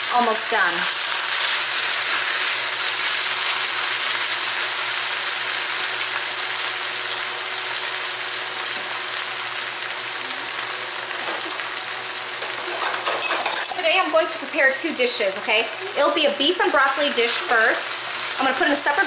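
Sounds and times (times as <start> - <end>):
stir-fry sizzling in a wok: 0.0 - 19.0.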